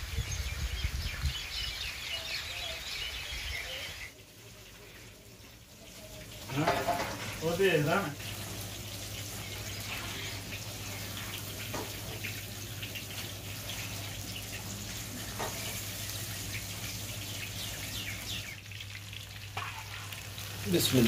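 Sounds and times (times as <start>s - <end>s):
food sizzling in hot oil: 0.0s - 21.0s
skimmer turning food in oil: 4.1s - 21.0s.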